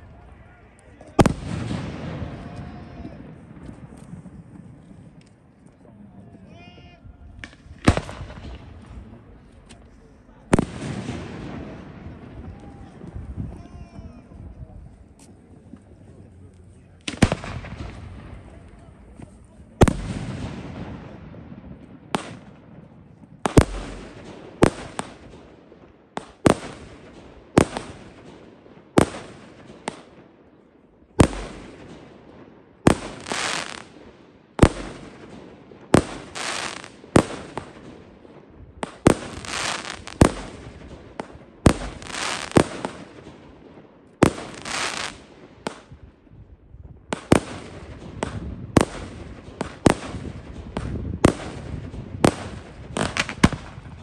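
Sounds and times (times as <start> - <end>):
fireworks bursting: 0.0 - 5.9, 7.3 - 14.4, 17.0 - 46.2, 47.0 - 54.0.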